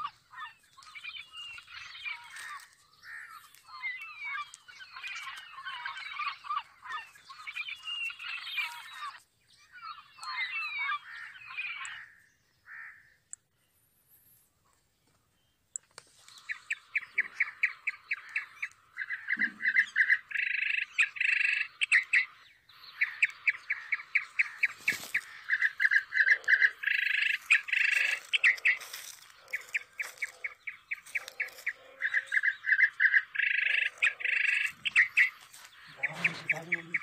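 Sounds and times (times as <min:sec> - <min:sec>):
bird singing high chirps and trill: 0:00.0 - 0:37.0.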